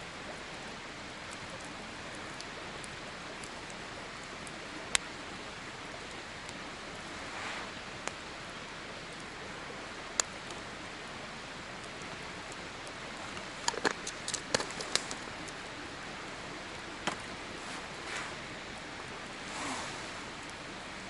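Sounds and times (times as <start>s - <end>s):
campfire crackling: 0.0s - 21.0s
steady hiss: 0.0s - 21.0s.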